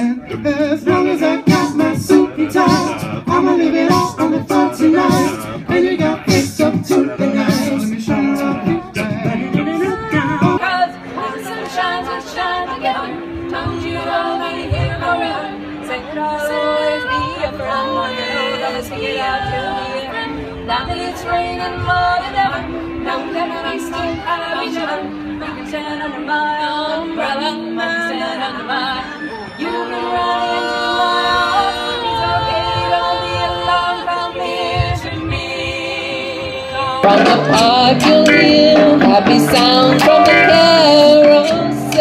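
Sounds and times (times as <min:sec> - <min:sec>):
band song with woman singing: 0:00.0 - 0:35.5, 0:36.3 - 0:42.0
women singing a cappella harmony: 0:00.0 - 0:42.0.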